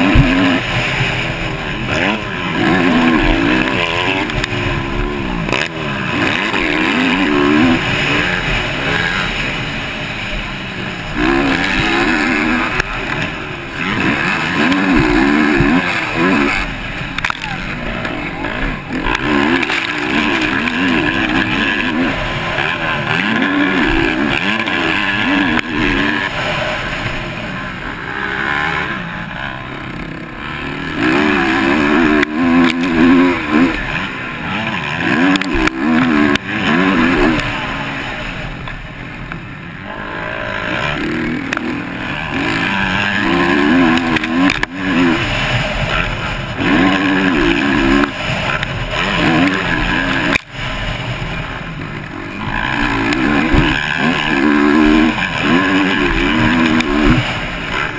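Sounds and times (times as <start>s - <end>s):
motocross bike engine revving: 0.0s - 57.9s
track noise: 0.0s - 57.9s.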